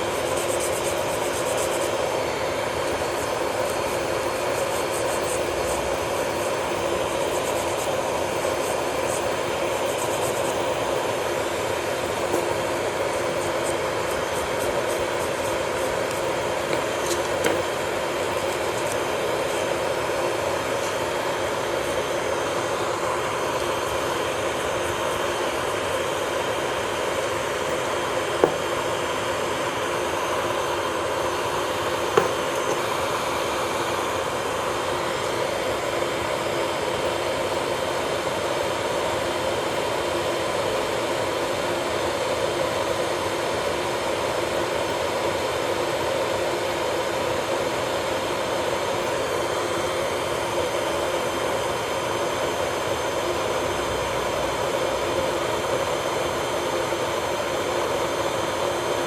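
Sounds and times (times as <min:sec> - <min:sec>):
electric nail drill whining: 0:00.0 - 0:59.0.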